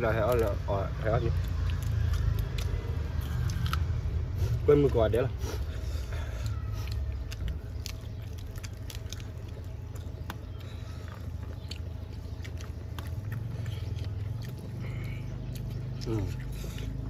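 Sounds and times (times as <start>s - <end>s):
people chewing and smacking: 0.0s - 17.0s
steady low hum: 0.0s - 17.0s.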